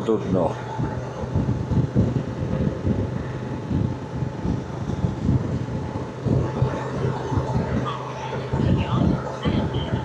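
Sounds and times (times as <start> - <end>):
wind buffeting microphone: 0.0 - 10.0
motorcycle engine running: 0.6 - 10.0.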